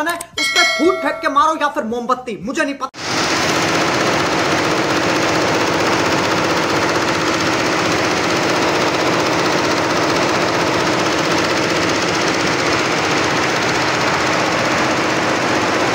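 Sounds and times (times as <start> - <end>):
textile machine clattering: 3.1 - 15.9.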